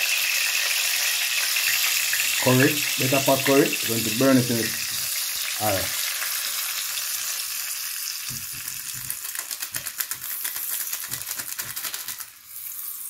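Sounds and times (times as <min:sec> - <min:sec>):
oil crackling spatter: 0:00.0 - 0:13.0
spices sizzling in hot oil: 0:00.0 - 0:13.0.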